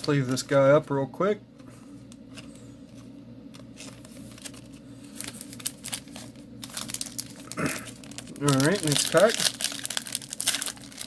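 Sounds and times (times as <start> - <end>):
cards and plastic crinkling: 0.0 - 0.5, 2.1 - 11.0
steady low hum: 0.0 - 11.0.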